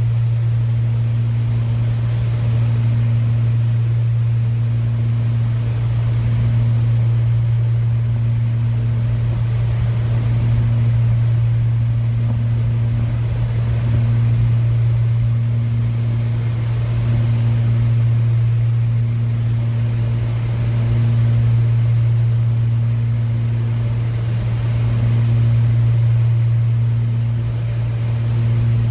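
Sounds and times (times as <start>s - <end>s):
low electrical hum: 0.0s - 28.9s.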